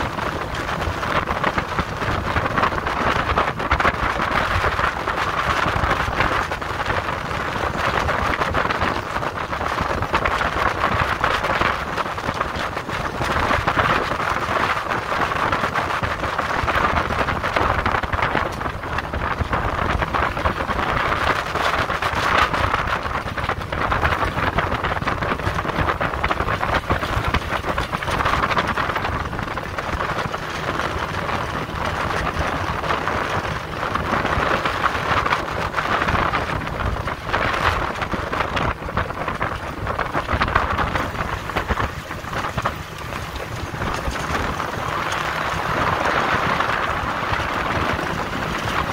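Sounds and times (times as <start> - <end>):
water rushing past boat hull: 0.0 - 48.9
wind buffeting microphone: 0.0 - 48.9.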